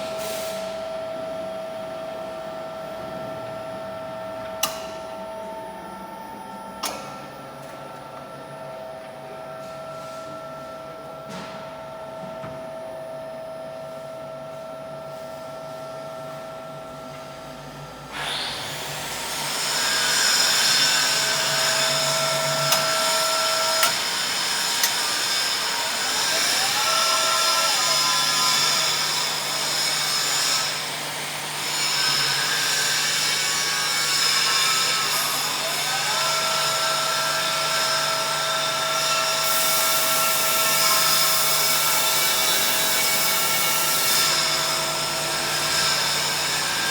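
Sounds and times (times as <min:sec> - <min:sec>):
machinery electric hum and whine: 0:00.0 - 0:46.9.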